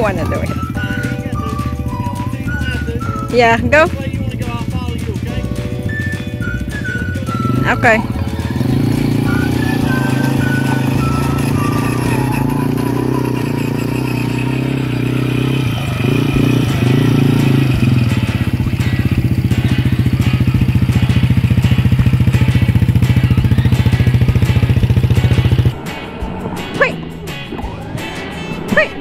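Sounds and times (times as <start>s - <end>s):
atv motor running: 0.0s - 25.8s.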